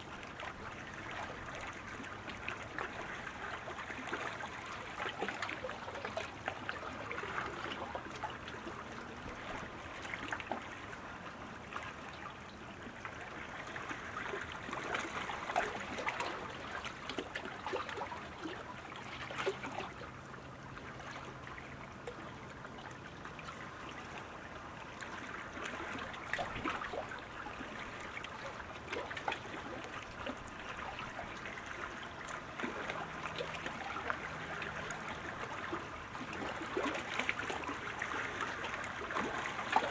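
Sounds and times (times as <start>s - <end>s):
small water splashes: 0.0s - 39.9s
water lapping and trickling: 0.0s - 39.9s.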